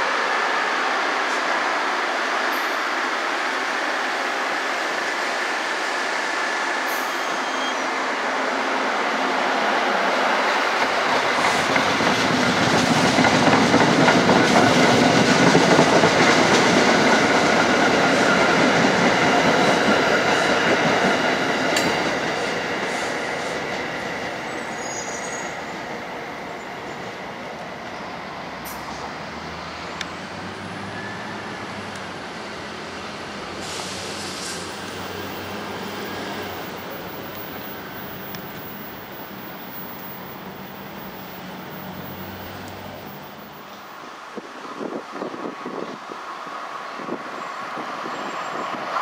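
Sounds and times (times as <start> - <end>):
train wheels on rails passing: 0.0 - 49.0.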